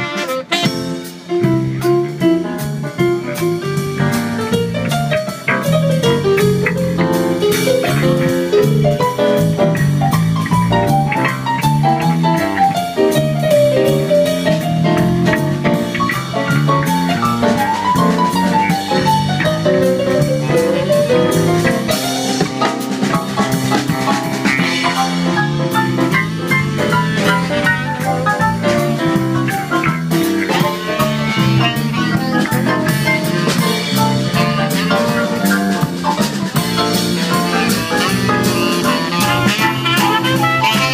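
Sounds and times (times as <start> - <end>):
bass guitar: 0.0 - 40.9
electronic keyboard melody: 0.0 - 40.9
steady drum beat: 0.0 - 40.9.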